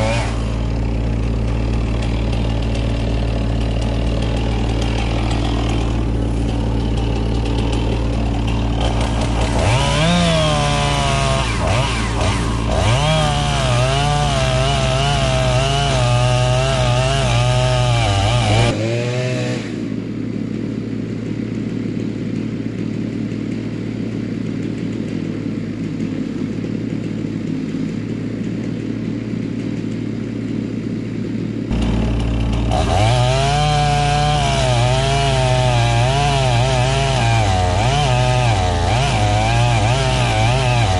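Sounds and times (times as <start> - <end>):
chainsaw cutting tree trunk: 0.0 - 40.9.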